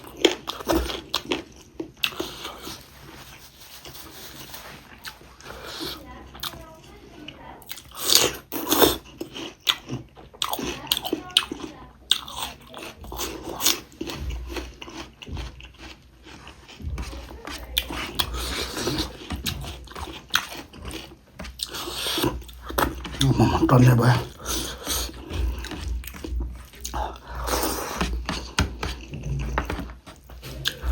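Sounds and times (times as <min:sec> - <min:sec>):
person biting and chewing food: 0:00.0 - 0:06.5, 0:07.7 - 0:30.9.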